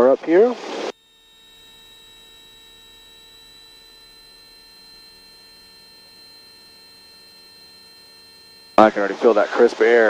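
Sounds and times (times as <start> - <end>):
electrical hum with high whine: 0.0 - 10.0.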